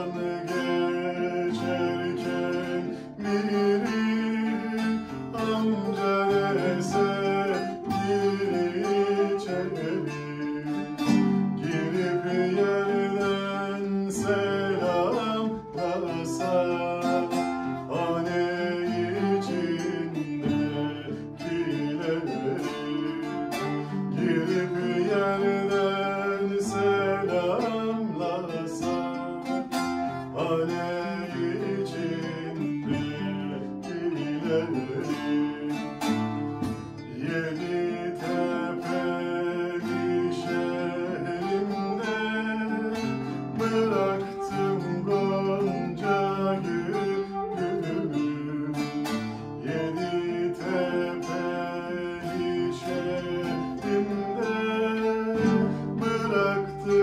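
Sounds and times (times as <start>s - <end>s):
flute melody: 0.0s - 57.0s
plucked strings accompaniment: 0.0s - 57.0s.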